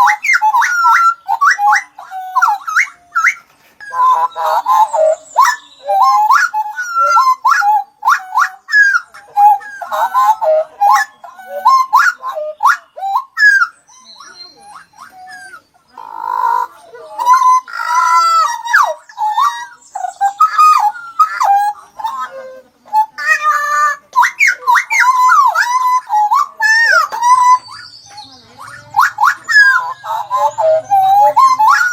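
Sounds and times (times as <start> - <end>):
harsh buzzy bird call: 0.0 - 31.9
songbirds singing: 0.0 - 31.9.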